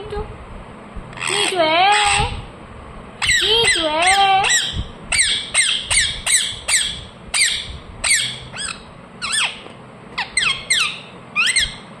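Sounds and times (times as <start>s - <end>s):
parrot chirping calls: 1.2s - 2.5s, 3.2s - 12.0s.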